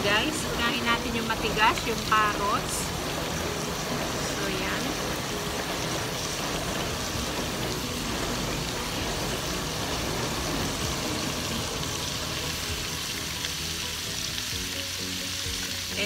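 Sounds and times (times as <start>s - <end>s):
stir-fry sizzling in a pan: 0.0s - 16.0s.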